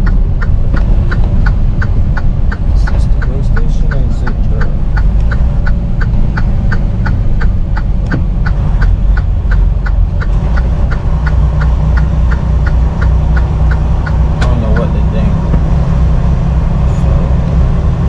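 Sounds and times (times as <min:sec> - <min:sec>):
sharp ticking: 0:00.0 - 0:16.8
truck engine and road rumble: 0:00.0 - 0:18.0.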